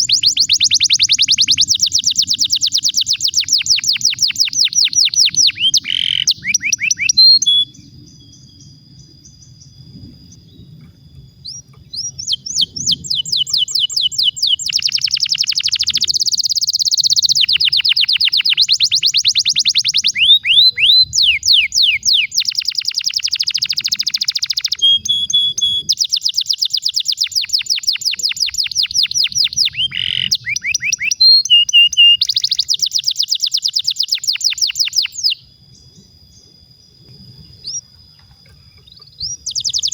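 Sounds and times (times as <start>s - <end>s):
canary singing trills: 0.0s - 36.2s, 37.1s - 39.9s.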